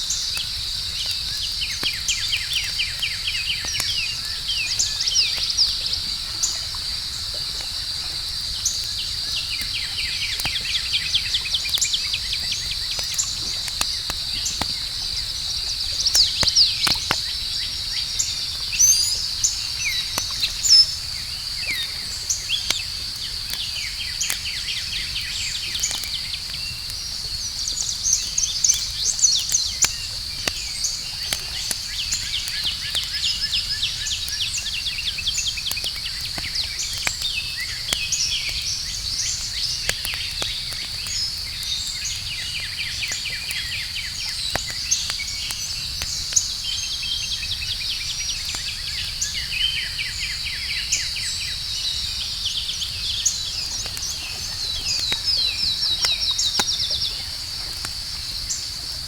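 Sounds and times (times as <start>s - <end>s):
burning wood crackling: 0.0s - 59.0s
cricket trill: 0.0s - 59.0s.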